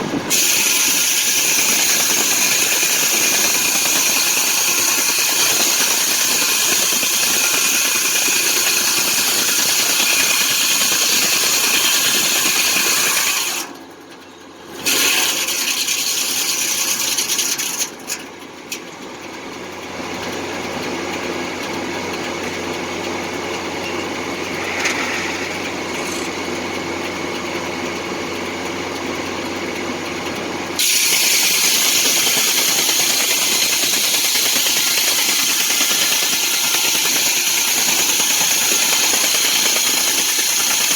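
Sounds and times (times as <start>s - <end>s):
circular sawmill engine running: 0.0s - 40.9s.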